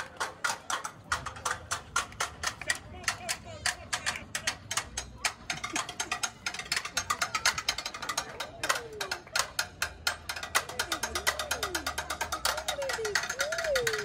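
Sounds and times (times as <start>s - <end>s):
rapid irregular clicking: 0.0s - 14.0s.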